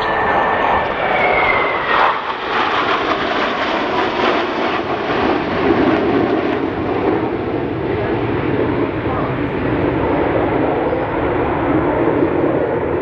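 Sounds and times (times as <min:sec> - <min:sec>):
high jet whine: 0:00.0 - 0:13.0
jets passing overhead: 0:00.0 - 0:13.0.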